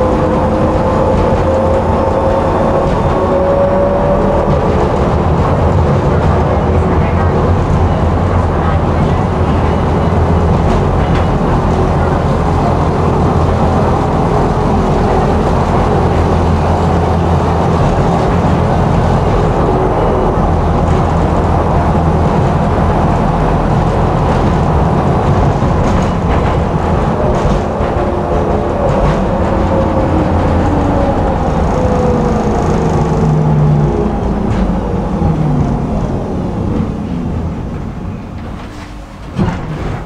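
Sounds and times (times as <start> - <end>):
tram wheels rumbling on rails: 0.0 - 40.0.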